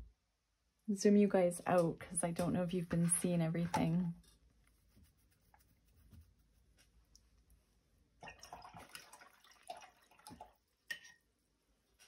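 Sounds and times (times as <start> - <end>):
brush swishing in water jar: 1.6 - 7.5, 8.1 - 12.0.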